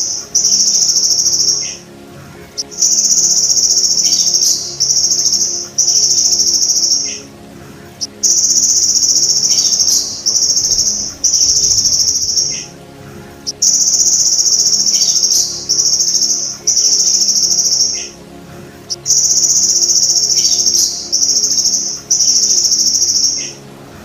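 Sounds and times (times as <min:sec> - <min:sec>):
faint low hum: 0:00.0 - 0:24.0
grasshopper buzzing trills: 0:00.0 - 0:24.0.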